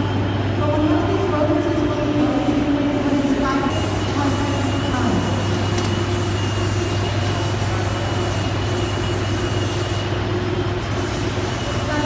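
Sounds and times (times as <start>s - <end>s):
water and machinery roar: 0.0s - 12.0s.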